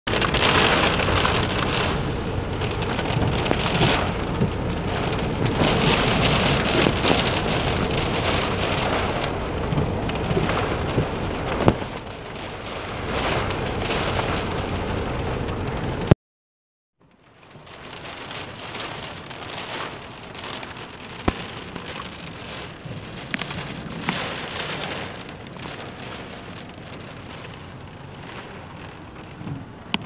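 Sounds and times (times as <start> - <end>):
heavy rain on car roof: 0.1 - 16.2, 17.0 - 30.0.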